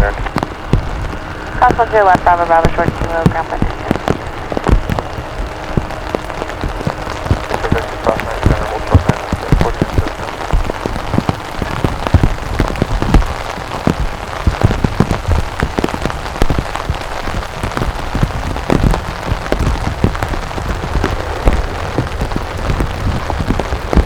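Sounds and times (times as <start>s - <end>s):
raindrops hitting close: 0.0s - 24.0s
steady rain: 0.0s - 24.0s.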